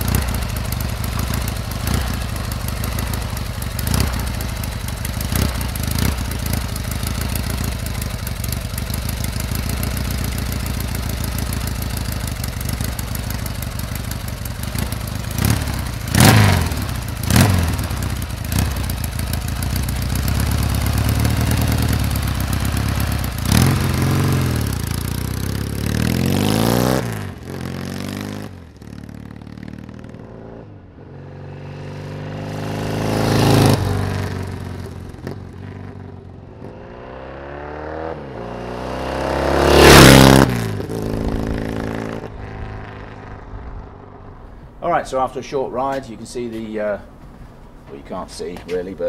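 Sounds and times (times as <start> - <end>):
motorcycle engine revving: 0.0 - 44.1
motorcycle passing by: 0.0 - 44.5.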